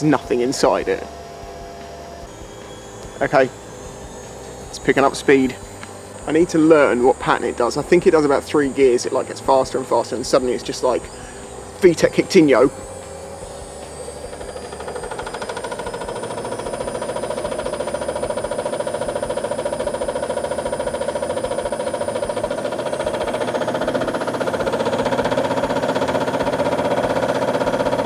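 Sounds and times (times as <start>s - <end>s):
washing machine drum spinning: 0.0s - 28.0s.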